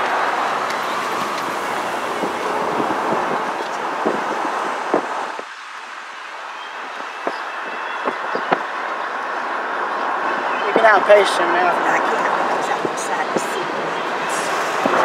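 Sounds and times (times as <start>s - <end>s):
vehicles rushing past: 0.0s - 15.0s.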